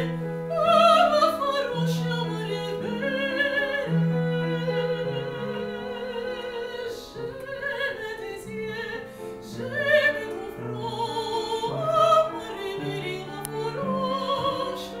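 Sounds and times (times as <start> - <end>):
piano accompaniment: 0.0 - 15.0
woman singing opera: 0.0 - 15.0.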